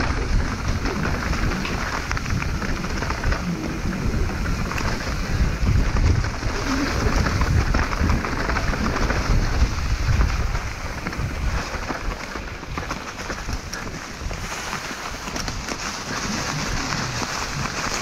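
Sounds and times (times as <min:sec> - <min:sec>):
bike rattling: 0:00.0 - 0:18.0
tyres crunching over stones: 0:00.0 - 0:18.0
wind rumbling on microphone: 0:00.0 - 0:18.0.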